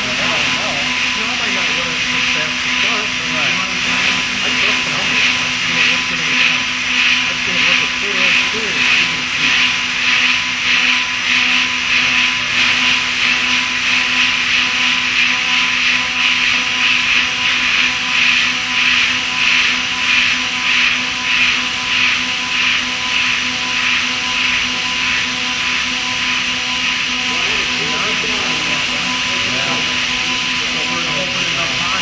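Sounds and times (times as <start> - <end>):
hissing metal cutting noise: 0.0 - 32.0
mill spindle tone: 0.0 - 32.0.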